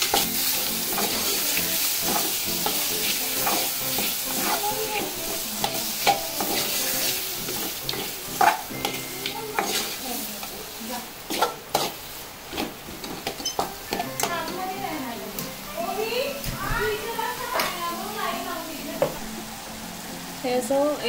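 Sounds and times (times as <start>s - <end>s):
meat sizzling in oil: 0.0s - 21.0s.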